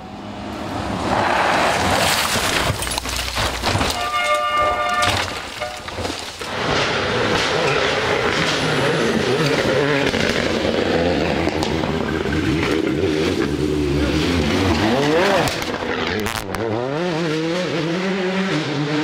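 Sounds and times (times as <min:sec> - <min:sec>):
rally car engine: 0:00.0 - 0:19.0.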